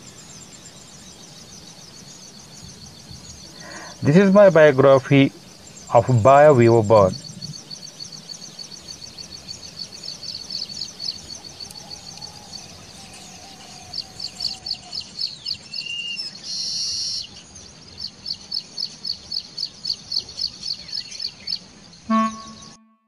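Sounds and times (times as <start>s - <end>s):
small birds chirping: 0.0s - 22.8s.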